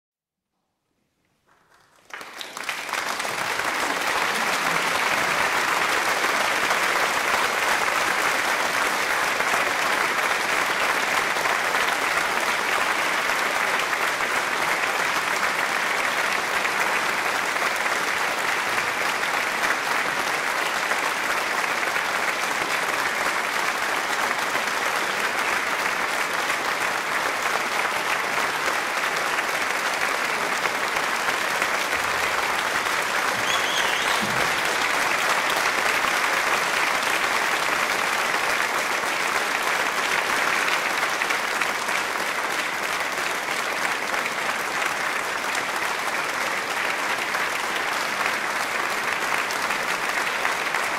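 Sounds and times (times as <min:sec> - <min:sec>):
audience applauding: 0:01.4 - 0:50.9.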